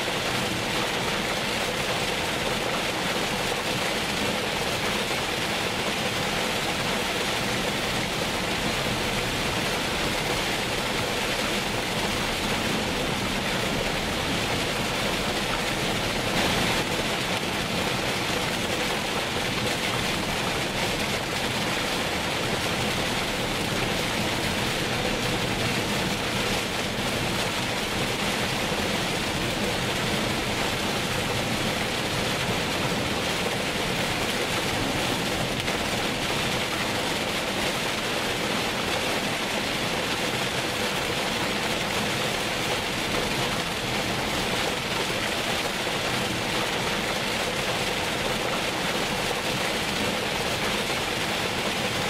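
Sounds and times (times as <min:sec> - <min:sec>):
heavy rain hiss: 0:00.0 - 0:52.0.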